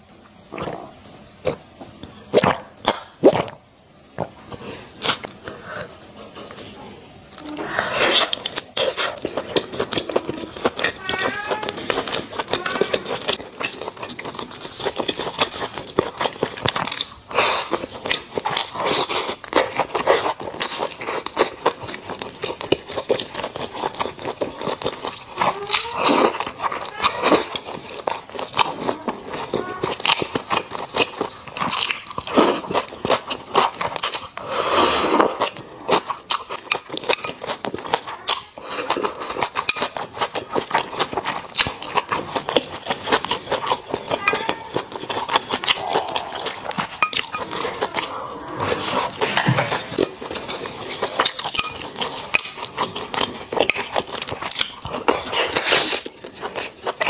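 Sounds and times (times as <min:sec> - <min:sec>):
close chewing and lip smacks: 0:08.2 - 0:57.0.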